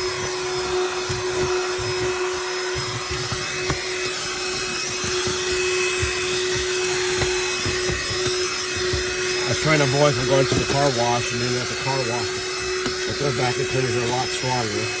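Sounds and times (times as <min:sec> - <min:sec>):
handheld vacuum running: 0:00.0 - 0:15.0.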